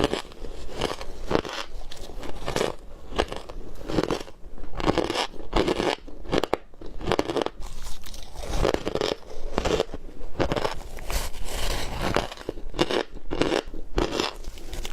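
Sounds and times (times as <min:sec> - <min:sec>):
ice crunching being chewed: 0:00.0 - 0:14.9.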